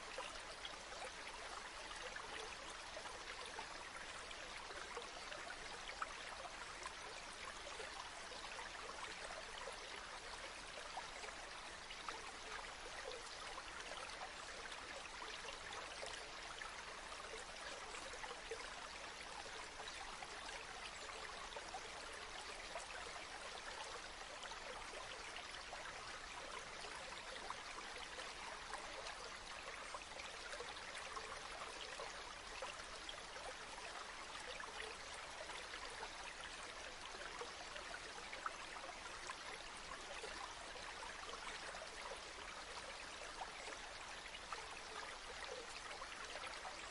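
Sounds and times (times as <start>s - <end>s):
water trickling and bubbling: 0.0s - 46.9s.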